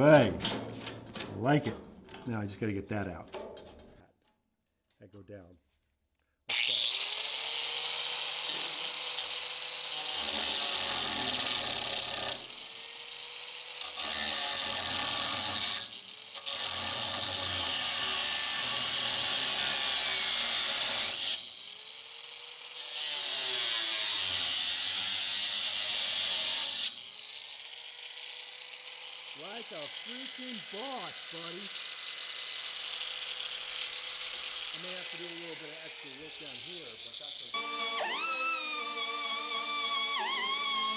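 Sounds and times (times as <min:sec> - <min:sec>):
power cutter slicing sheet steel: 0:00.0 - 0:03.9, 0:06.5 - 0:40.9.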